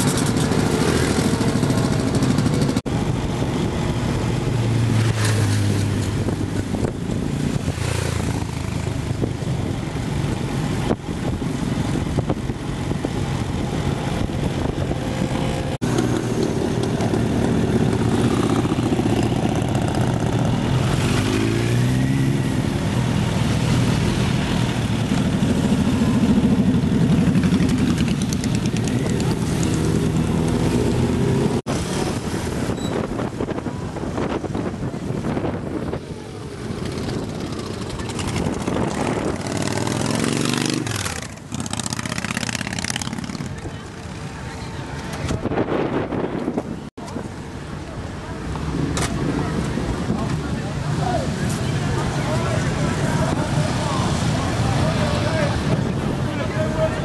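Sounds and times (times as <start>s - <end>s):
motorcycle engines: 0.0s - 57.0s.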